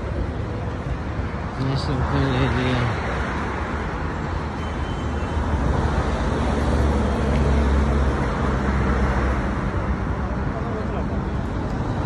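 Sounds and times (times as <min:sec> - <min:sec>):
rumble of passing cars: 0:00.0 - 0:12.0.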